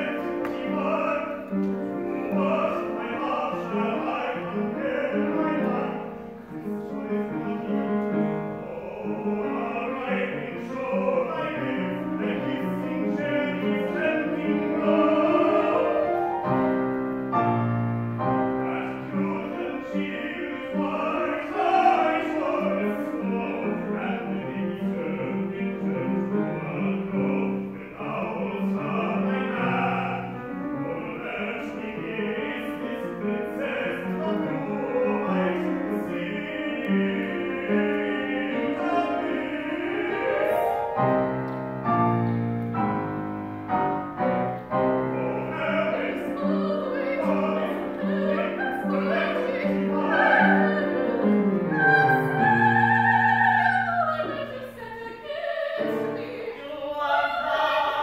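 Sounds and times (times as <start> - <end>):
operatic singing: 0.0 - 16.9, 18.1 - 41.6, 44.1 - 58.0
piano accompaniment: 0.0 - 58.0.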